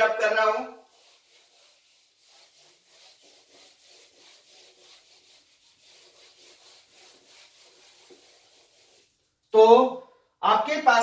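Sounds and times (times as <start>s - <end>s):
whiteboard being wiped: 0.0s - 9.5s.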